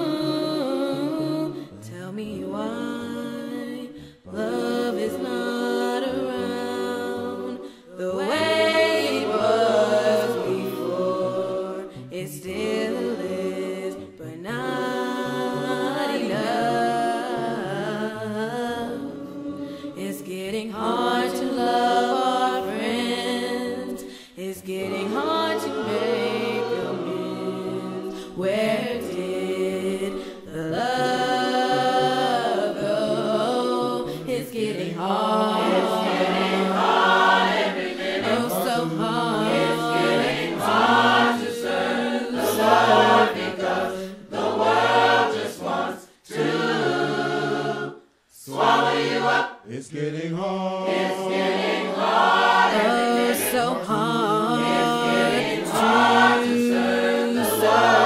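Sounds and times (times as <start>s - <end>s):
choir singing a hymn a cappella: 0.0s - 58.0s.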